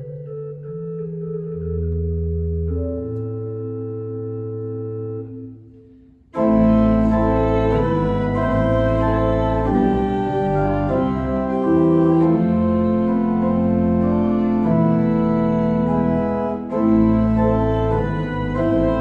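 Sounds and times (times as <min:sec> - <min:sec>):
church organ playing: 0:00.0 - 0:19.0.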